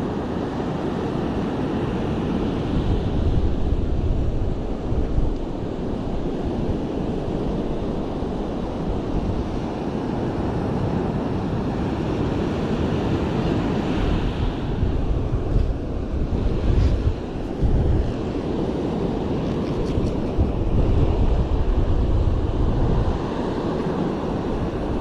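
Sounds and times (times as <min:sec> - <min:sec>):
ocean surf hissing: 0:00.0 - 0:25.0
wind buffeting microphone: 0:00.0 - 0:25.0.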